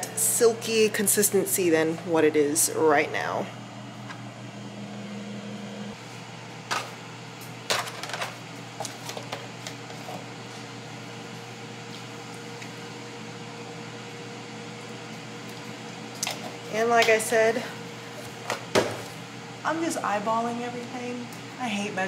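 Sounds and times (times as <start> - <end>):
air fryer fan hum: 0.0 - 22.0.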